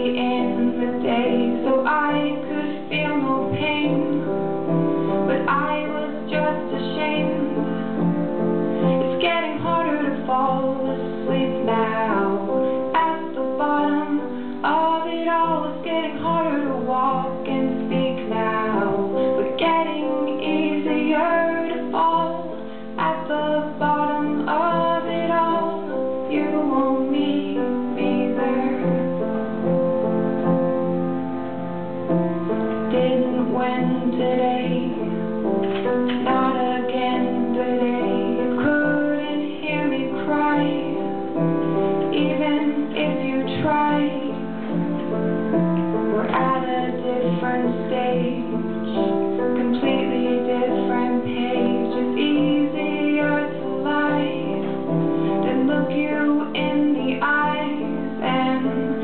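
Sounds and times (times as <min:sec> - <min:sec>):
woman singing: 0:00.0 - 0:29.4, 0:32.5 - 0:59.0
piano accompaniment: 0:00.0 - 0:59.0.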